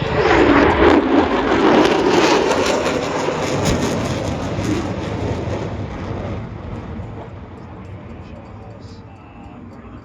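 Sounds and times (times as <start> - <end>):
jet aircraft passing: 0.0 - 10.0.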